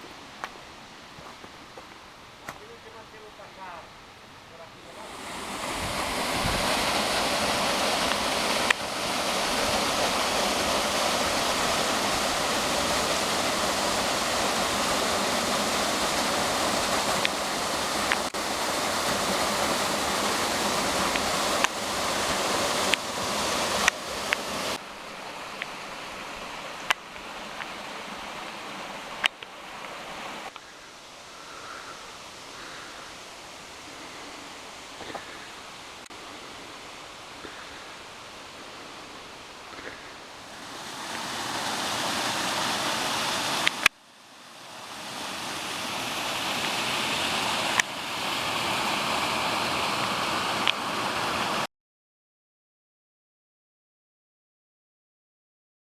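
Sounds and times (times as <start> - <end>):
waterfall rushing: 0.0 - 51.7.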